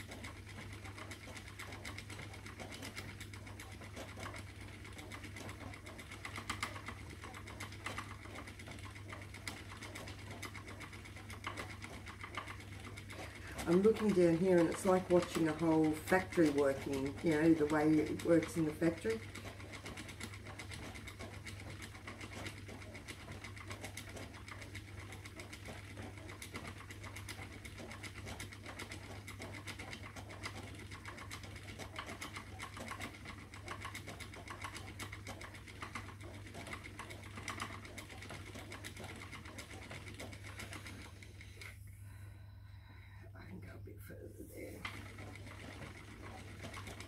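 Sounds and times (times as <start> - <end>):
spinning wheel clicking and whirring: 0.0 - 41.9, 44.1 - 47.0.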